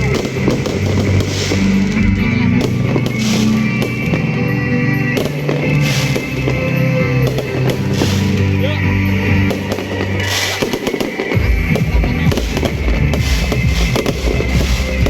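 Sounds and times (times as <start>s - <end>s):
fireworks bangs: 0.0s - 15.0s
fireworks crackling hiss: 0.0s - 15.0s
music with steady beat: 0.0s - 15.0s.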